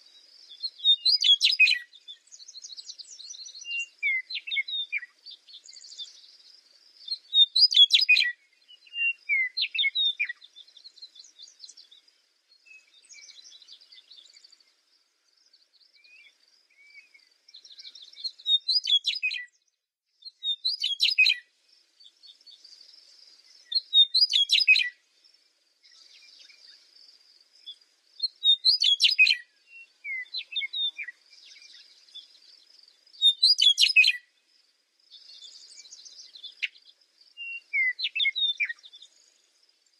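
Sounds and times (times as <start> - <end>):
soft bird twittering: 0.0 - 34.5, 35.1 - 39.9
songbird high song phrase: 0.0 - 39.9.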